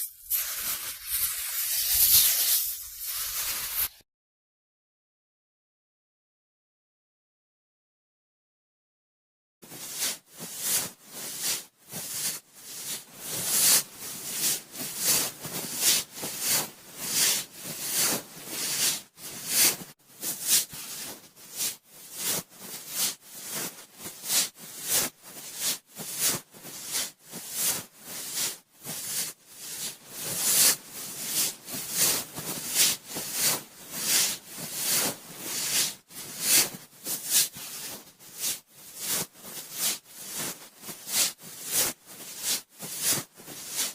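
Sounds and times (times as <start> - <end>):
cotton swab rubbing on microphone: 0.0 - 4.0, 9.7 - 43.9.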